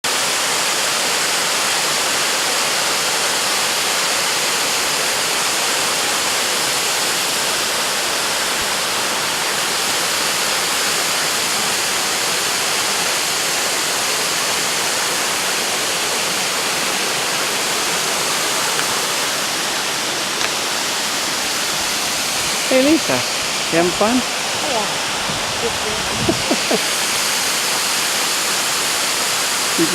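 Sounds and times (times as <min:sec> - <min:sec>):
small waterfall rushing: 0:00.0 - 0:29.9.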